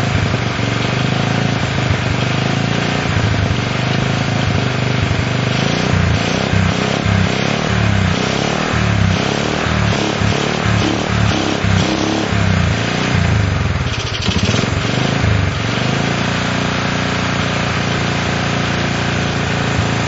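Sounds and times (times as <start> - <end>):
small motorcycle engine idling: 0.0 - 20.0.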